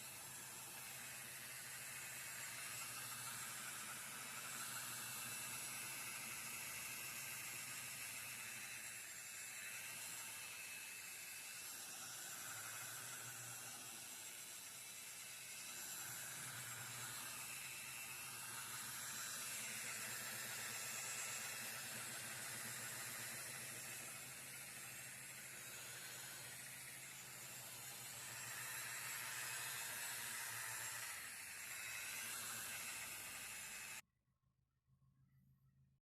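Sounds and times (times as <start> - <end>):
car polisher running: 0.0 - 34.0.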